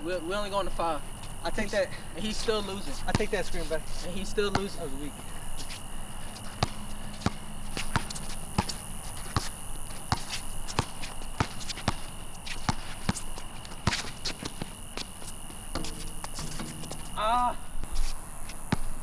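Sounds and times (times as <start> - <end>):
basketball bouncing: 2.4 - 17.4, 18.6 - 19.0.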